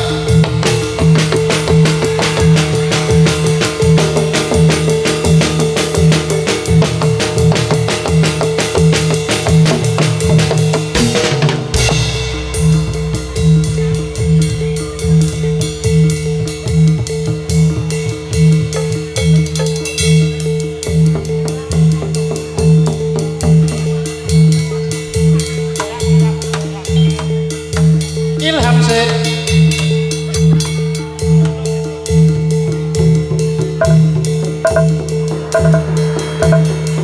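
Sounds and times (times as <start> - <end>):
drums beating a steady pulse: 0.0 - 37.0.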